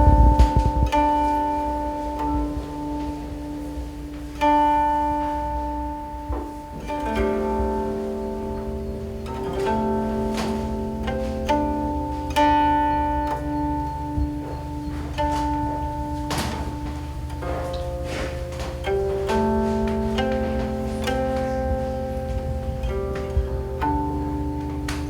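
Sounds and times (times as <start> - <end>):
zither plucked notes: 0.0 - 25.0.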